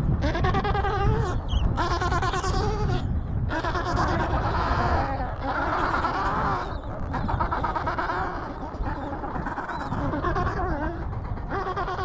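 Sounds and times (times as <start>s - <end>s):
penguins calling harshly: 0.2s - 10.7s.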